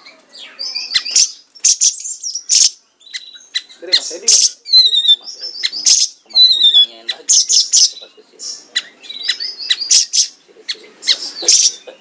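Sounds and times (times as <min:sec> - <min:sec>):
bird chirping and whistling: 0:00.4 - 0:10.4, 0:11.1 - 0:11.8.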